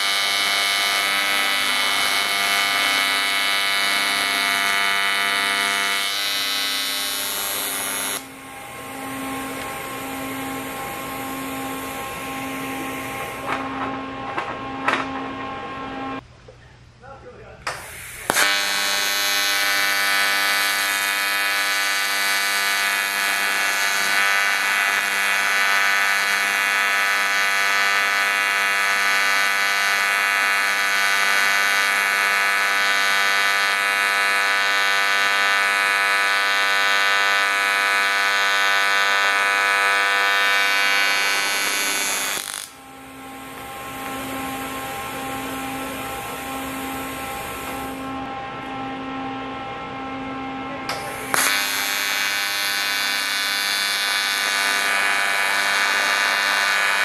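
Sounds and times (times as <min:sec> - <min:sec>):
welding arc buzzing: 0:00.0 - 0:16.2, 0:17.7 - 0:48.3, 0:50.9 - 0:57.0.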